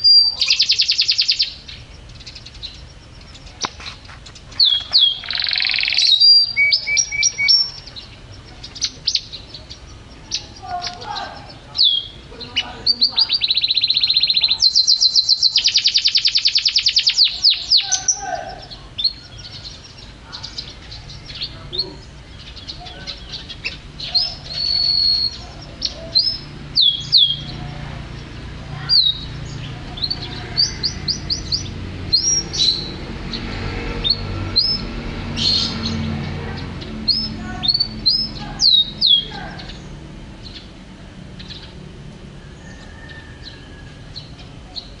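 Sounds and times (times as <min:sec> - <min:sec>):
canary singing: 0:00.0 - 0:45.0.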